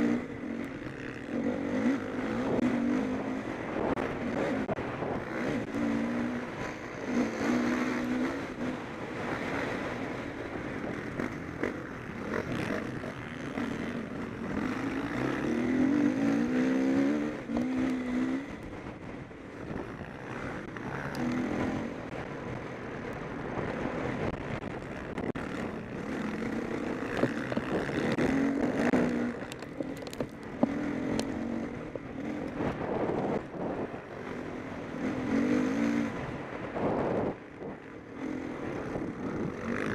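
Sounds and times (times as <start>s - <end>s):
background motorbikes: 0.0s - 39.9s
motocross bike engines revving: 0.0s - 39.9s.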